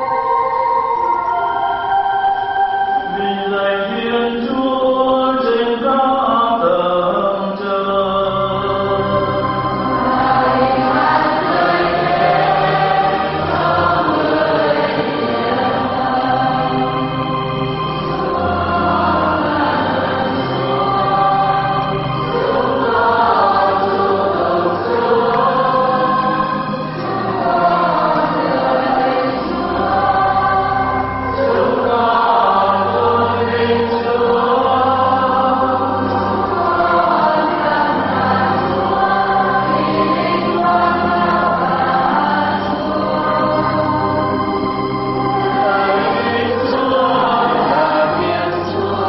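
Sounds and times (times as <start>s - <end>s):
choir singing a hymn: 0.0s - 49.0s
low accompaniment: 6.0s - 49.0s.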